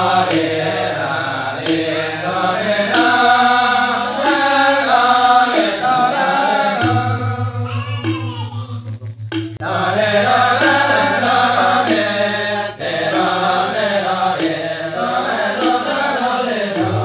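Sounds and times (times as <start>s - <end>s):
men chanting together: 0.0s - 7.5s, 9.6s - 17.0s
low steady drone: 0.0s - 14.1s.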